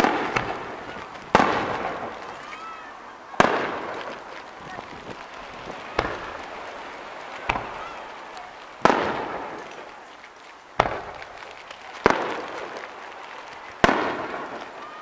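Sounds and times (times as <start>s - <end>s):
firework bangs with echo: 0.0s - 10.1s, 10.7s - 15.0s.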